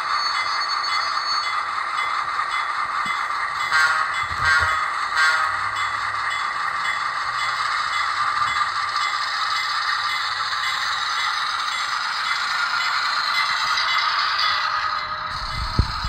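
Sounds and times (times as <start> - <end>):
model train diesel engine sound: 0.0 - 16.0
wheels rattling on rails: 0.0 - 16.0.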